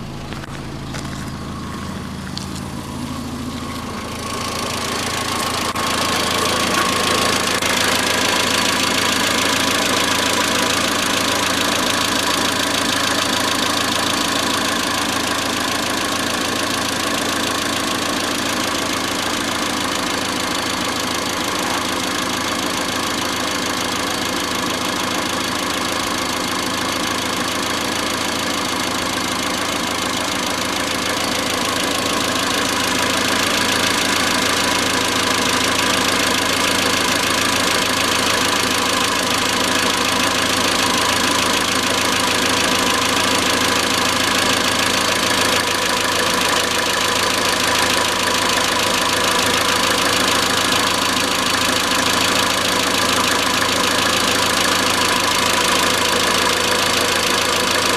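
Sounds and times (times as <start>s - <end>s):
engine idling with metallic knocking: 0.0s - 57.9s.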